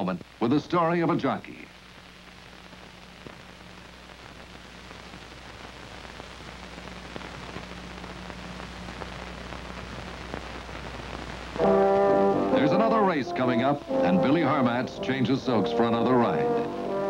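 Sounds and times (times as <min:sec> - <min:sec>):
hiss and crackle: 0:00.0 - 0:17.0.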